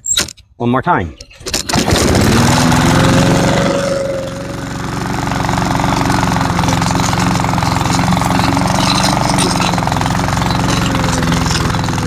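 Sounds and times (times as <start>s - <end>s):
lawn mower engine running: 1.6s - 12.0s.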